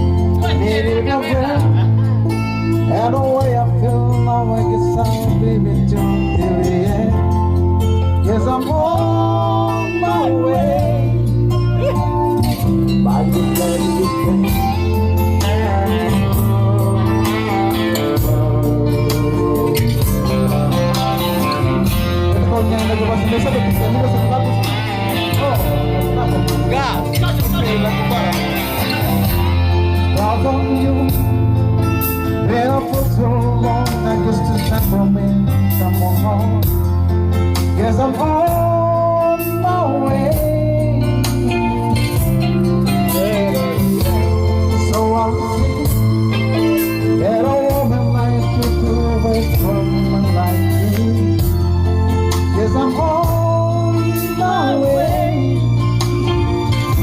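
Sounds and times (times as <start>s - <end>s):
bass notes: 0.0s - 57.0s
drums: 0.0s - 57.0s
guitar-led instrumental: 0.0s - 57.0s
person singing: 0.0s - 57.0s.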